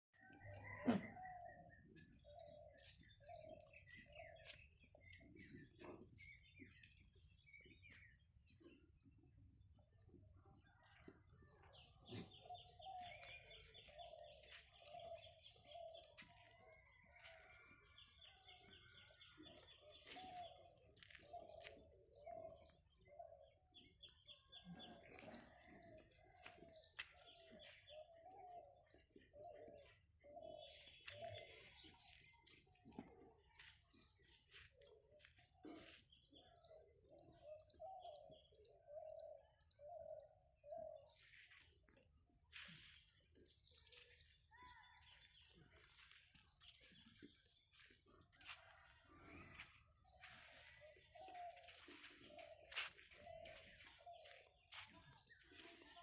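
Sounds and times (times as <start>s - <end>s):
low cooing bird calls: 0.1s - 56.0s.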